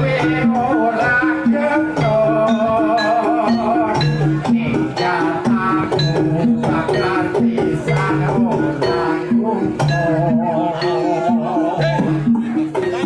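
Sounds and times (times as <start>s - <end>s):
person singing ornamented: 0.0s - 12.3s
repeating bass line: 0.0s - 13.0s.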